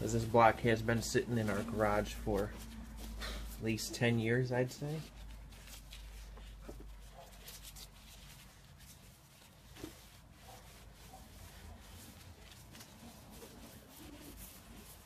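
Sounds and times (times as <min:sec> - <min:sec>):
cloth rubbing metal: 0:00.0 - 0:15.0.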